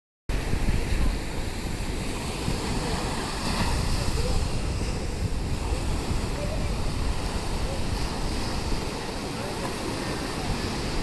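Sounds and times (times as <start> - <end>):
ocean surf rushing: 0.3 - 11.0
wind rumbling on microphone: 0.3 - 11.0.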